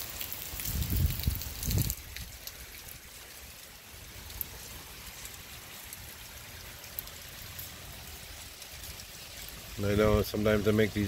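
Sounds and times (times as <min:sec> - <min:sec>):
sharp drip ticks: 0:00.0 - 0:09.8
light rain falling: 0:00.0 - 0:11.0.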